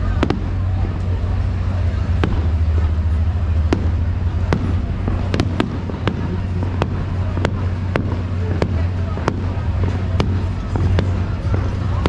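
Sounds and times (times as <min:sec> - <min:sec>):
fireworks bangs: 0:00.0 - 0:12.0
steady low hum: 0:00.0 - 0:12.0.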